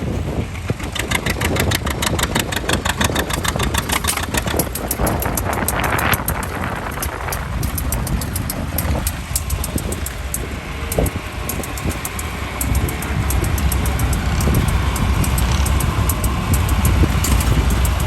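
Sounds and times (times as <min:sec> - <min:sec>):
tractor engine under load: 0:00.0 - 0:18.0.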